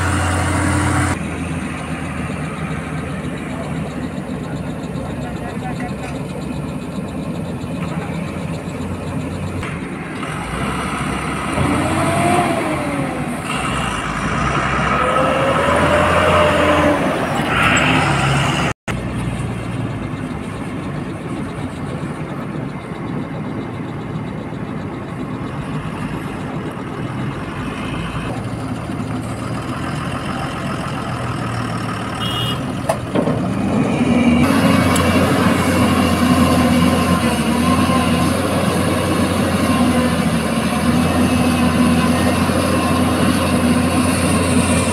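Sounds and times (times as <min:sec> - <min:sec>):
excavator diesel engine: 0:00.0 - 0:44.9
truck diesel engine driving away: 0:00.0 - 0:44.9.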